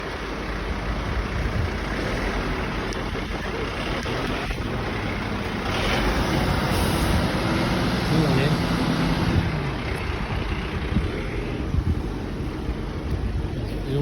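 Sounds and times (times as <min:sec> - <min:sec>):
fire engine diesel rumble: 0:00.0 - 0:14.0
road noise: 0:00.0 - 0:14.0.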